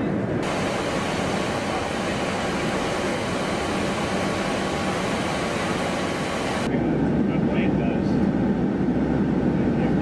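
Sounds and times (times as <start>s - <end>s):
airflow and jet engine noise in cockpit: 0.0s - 10.0s.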